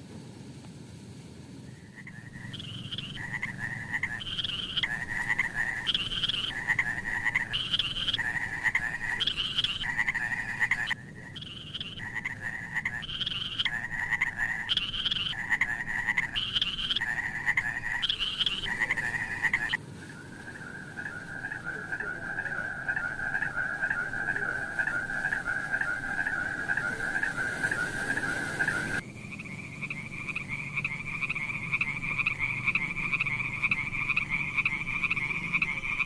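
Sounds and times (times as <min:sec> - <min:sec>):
frogs croaking: 0:01.6 - 0:36.0.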